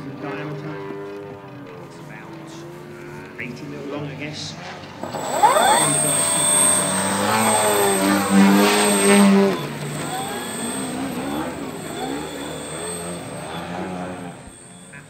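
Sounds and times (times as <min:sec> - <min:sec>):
model airplane engine fly-by: 0:00.0 - 0:15.0.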